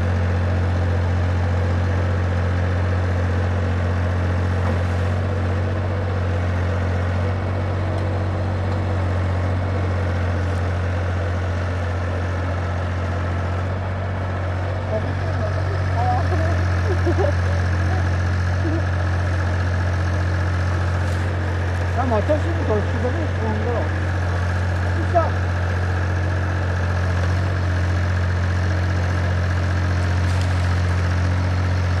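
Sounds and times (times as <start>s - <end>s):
excavator engine droning: 0.0s - 32.0s.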